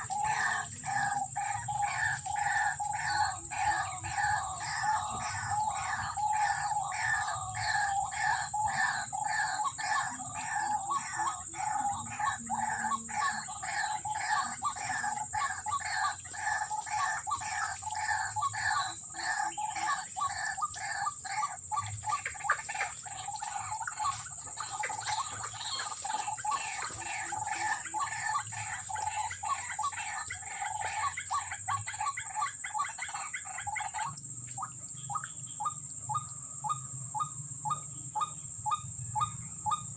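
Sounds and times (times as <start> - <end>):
bird calling rapidly: 0.0 - 39.9.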